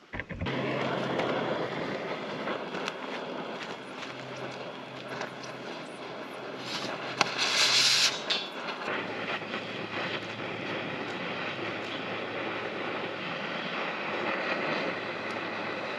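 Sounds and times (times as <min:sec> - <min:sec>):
hum dropping in pitch: 0:00.0 - 0:13.4
steady low rumble: 0:00.0 - 0:15.9
hiss: 0:00.5 - 0:15.9.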